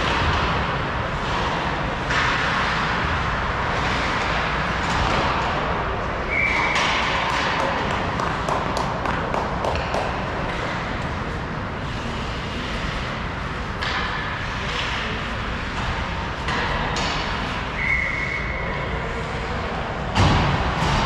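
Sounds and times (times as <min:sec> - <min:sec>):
hockey sticks and puck clacking: 0:00.0 - 0:18.5, 0:20.1 - 0:21.0
ice hockey game noise: 0:00.0 - 0:21.0.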